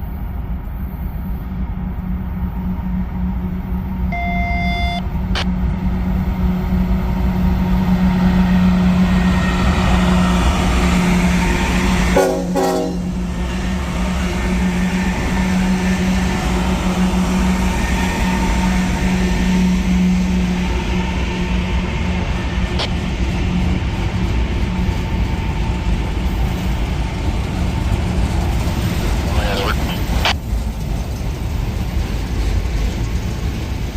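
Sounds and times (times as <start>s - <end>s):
diesel train passing: 0.0s - 33.9s.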